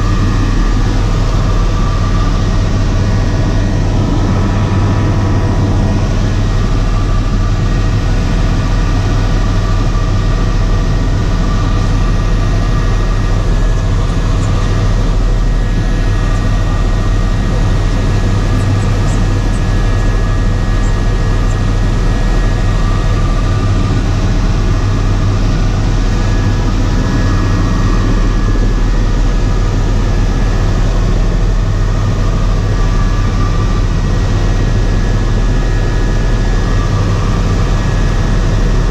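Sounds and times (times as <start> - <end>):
helicopter cabin drone: 0.0 - 38.9
thin steady whining tones: 0.0 - 38.9.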